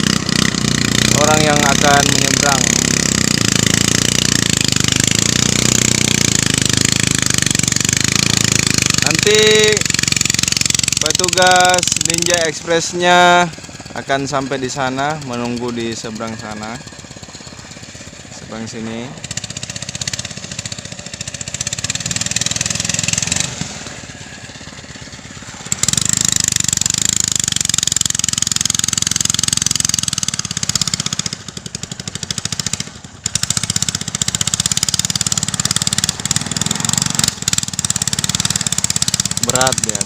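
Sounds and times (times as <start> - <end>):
small boat engine running fast: 0.0 - 40.0.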